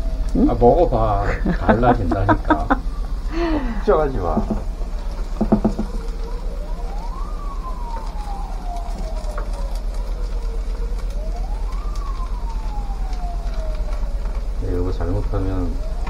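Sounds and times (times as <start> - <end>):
emergency siren wailing: 0.0 - 16.0
low steady hum: 0.0 - 16.0.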